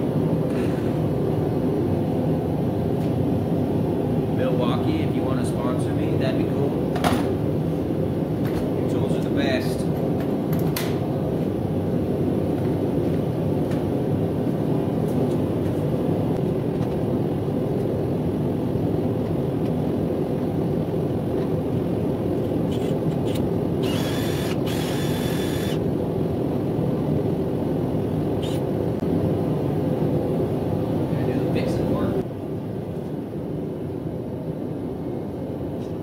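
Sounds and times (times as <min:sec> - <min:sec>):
forge burner roaring: 0:00.0 - 0:36.0.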